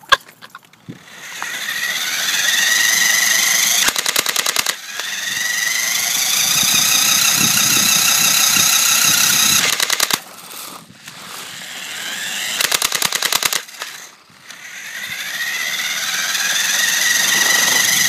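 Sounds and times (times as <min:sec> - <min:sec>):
electric motor whining: 0:00.8 - 0:18.0
airsoft gun rapid burst: 0:01.1 - 0:10.3, 0:11.9 - 0:14.1, 0:14.8 - 0:18.0.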